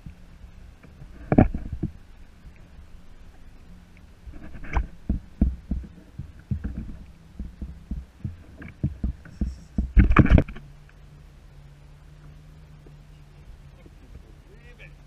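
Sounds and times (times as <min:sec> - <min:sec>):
faint low hum: 0:00.0 - 0:15.0
waves slapping kayak hull: 0:00.0 - 0:15.0.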